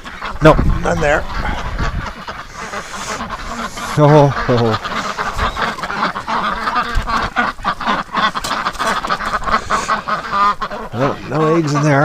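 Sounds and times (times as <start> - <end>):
drawn-out duck call: 0.0 - 12.0
ducks quacking: 0.0 - 12.0.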